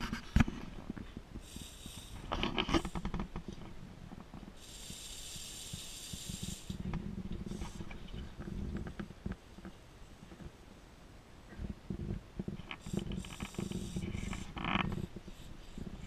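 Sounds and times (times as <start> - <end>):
robot gears clicking and rattling: 0.0 - 10.4, 12.4 - 16.0
steady hiss: 0.0 - 16.0.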